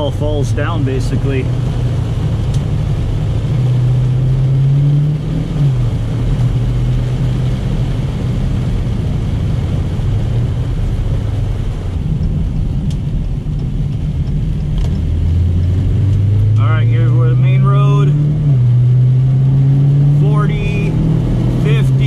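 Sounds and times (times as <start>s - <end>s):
car engine: 0.0s - 22.0s
wet road noise: 0.0s - 22.0s.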